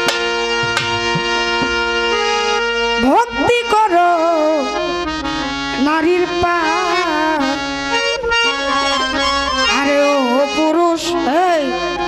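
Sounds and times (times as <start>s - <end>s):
sustained accompaniment: 0.0s - 12.0s
wavering ornamented folk melody: 0.0s - 12.0s.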